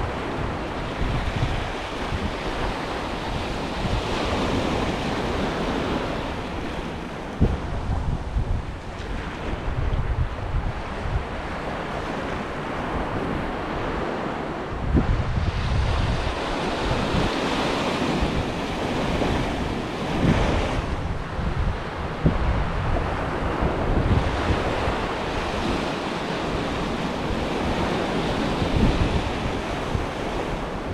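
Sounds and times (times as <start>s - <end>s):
sea waves breaking on beach: 0.0s - 30.9s
wind buffeting microphone: 0.0s - 30.9s.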